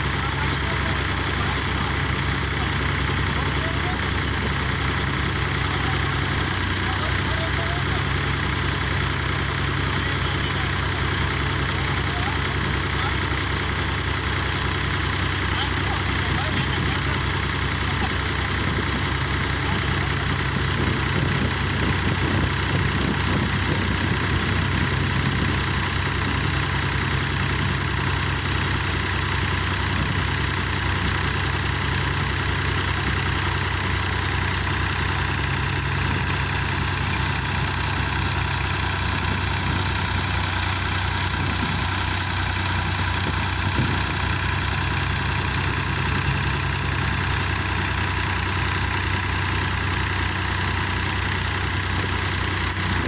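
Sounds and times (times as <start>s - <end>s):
tractor engine and thresher drone: 0.0s - 53.0s.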